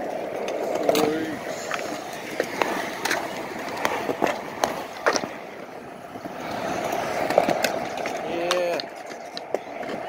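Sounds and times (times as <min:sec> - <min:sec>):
skateboard wheels rolling on concrete: 0:00.0 - 0:10.0.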